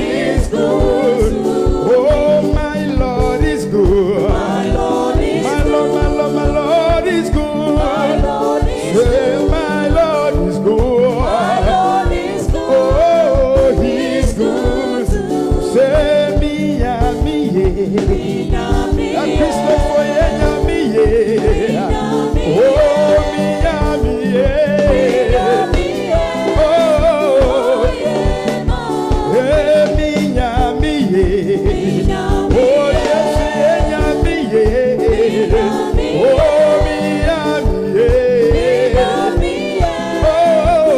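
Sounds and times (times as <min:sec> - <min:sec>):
gospel music with singing: 0:00.0 - 0:40.9.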